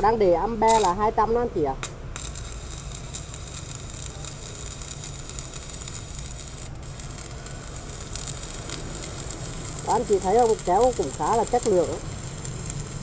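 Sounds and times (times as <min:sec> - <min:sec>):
welding arc crackling sizzle: 0:00.6 - 0:01.2, 0:01.8 - 0:13.0.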